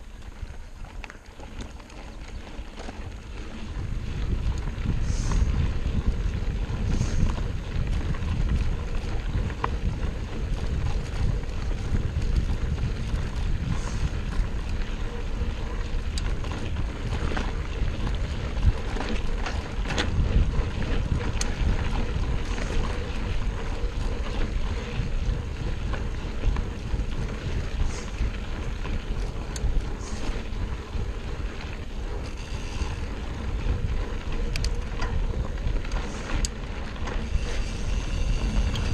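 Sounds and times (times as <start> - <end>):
bike clicks and rattles: 0.0 - 38.9
bike tyres on dirt trail: 0.0 - 38.9
wind noise on microphone: 0.0 - 38.9.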